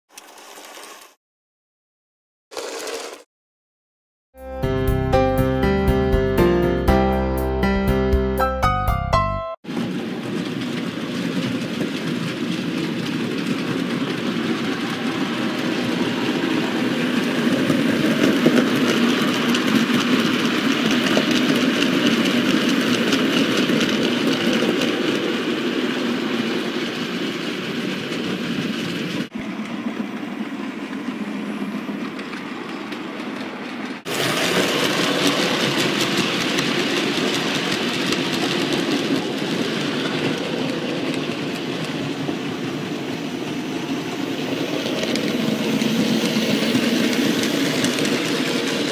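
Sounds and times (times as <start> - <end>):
model train rumbling on track: 9.7 - 48.9.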